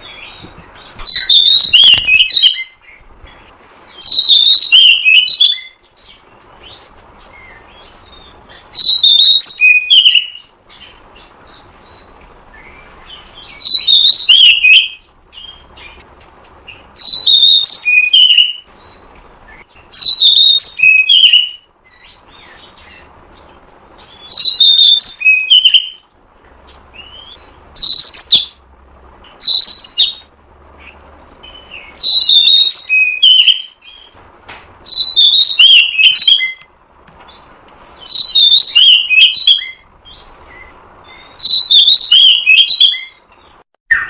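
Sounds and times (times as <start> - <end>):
bird whistled song: 0.0 - 26.0, 26.6 - 28.6, 29.2 - 34.2, 34.8 - 36.7, 37.3 - 44.0.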